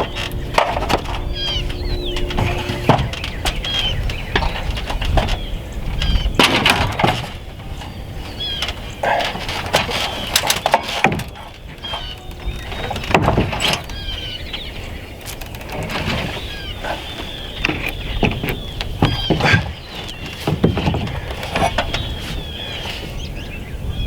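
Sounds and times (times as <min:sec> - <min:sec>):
knocks and clatter on wooden wall: 0:00.0 - 0:22.7
birds chirping: 0:00.0 - 0:24.0
wind rumble on microphone: 0:00.0 - 0:24.0.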